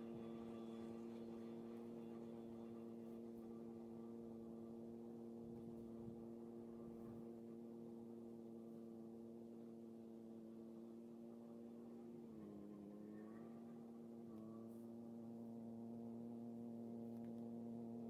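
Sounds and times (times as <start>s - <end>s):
faint pitched hum: 0.0s - 18.0s.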